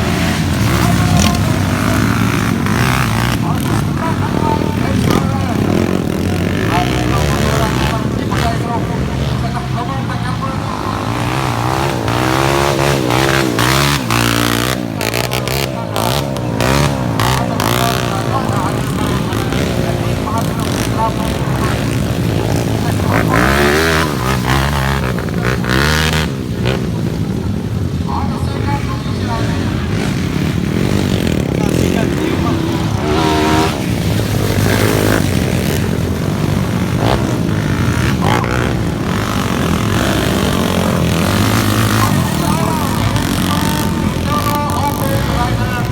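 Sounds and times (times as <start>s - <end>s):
motorcycle engines revving: 0.0s - 45.9s.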